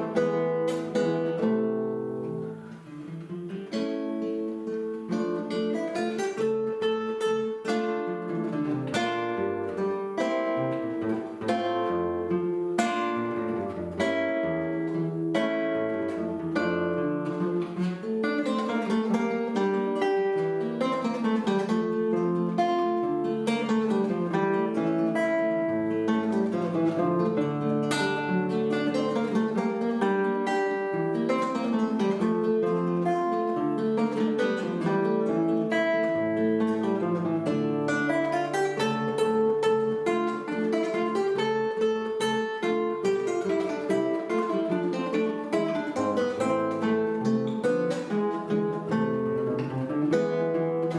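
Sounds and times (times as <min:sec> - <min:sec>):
plucked acoustic guitar: 0:00.0 - 0:50.9.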